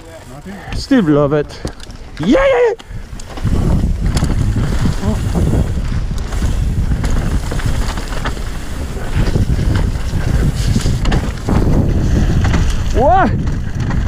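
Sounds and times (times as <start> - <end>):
bike rattling and knocking: 0.0 - 14.0
tyres rumbling over dirt: 0.0 - 14.0
wind rushing over microphone: 0.6 - 14.0.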